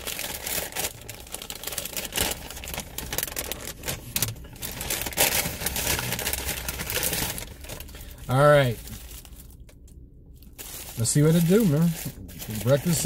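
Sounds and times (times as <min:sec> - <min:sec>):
paper wrapper rustling: 0:00.0 - 0:13.0.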